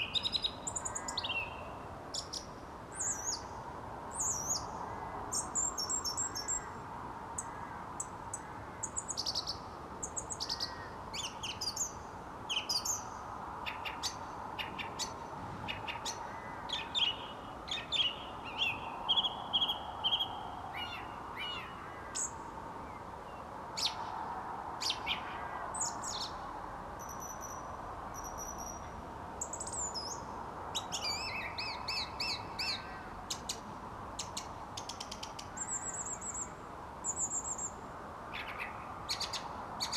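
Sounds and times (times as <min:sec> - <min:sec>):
faint background noise: 0:00.0 - 0:39.9.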